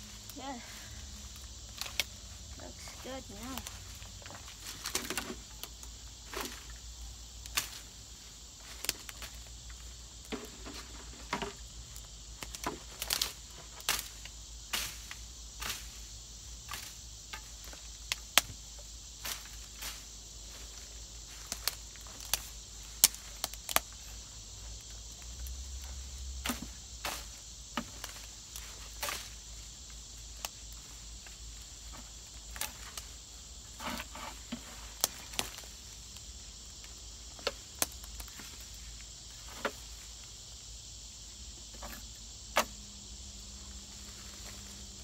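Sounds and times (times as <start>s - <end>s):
crickets chirping: 0.0s - 45.0s.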